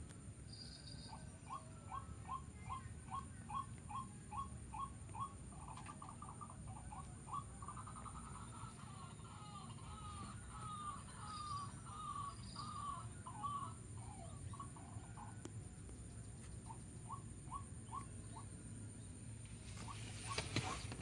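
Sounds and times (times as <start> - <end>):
low steady hum: 0.0 - 21.0
bird calling: 0.6 - 15.7, 16.3 - 21.0.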